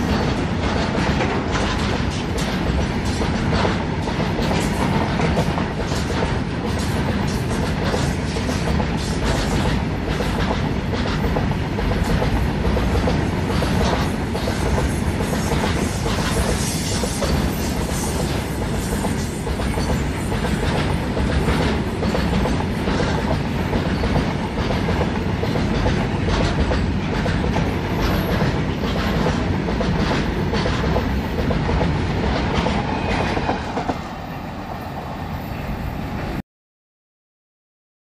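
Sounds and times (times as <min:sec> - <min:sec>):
train wheels clacking over rail joints: 0:00.0 - 0:34.0
freight train rumble: 0:00.0 - 0:36.4.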